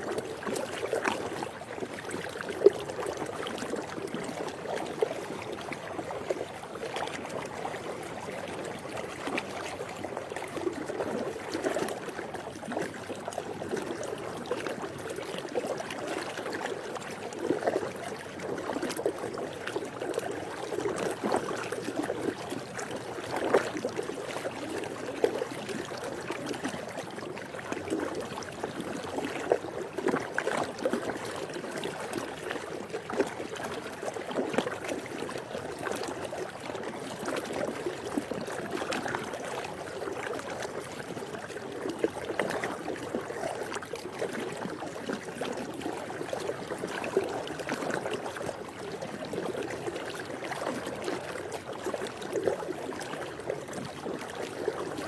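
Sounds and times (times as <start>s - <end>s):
pool water lapping and splashing: 0.0s - 55.0s.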